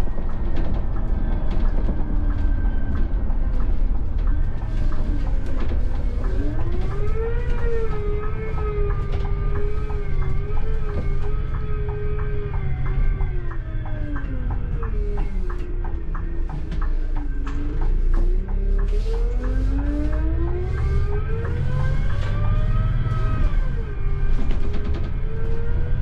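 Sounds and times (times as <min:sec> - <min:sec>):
coach engine and road rumble: 0:00.0 - 0:26.0
drivetrain whine: 0:00.0 - 0:26.0.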